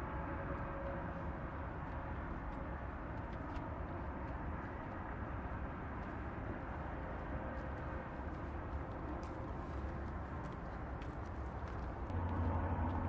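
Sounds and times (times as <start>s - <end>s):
low rumbling road noise: 0.0s - 13.0s.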